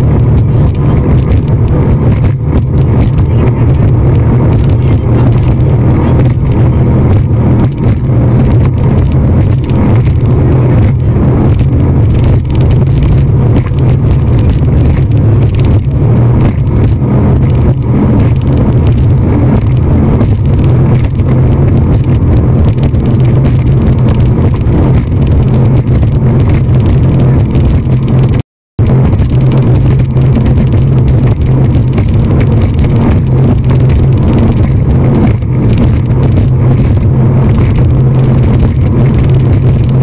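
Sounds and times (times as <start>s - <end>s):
speedboat engine rumble: 0.0s - 40.0s
wind buffeting microphone: 0.0s - 40.0s.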